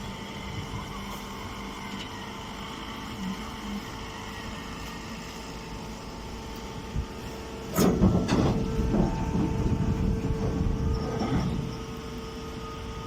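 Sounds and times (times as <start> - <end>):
baler machine humming: 0.0 - 13.0.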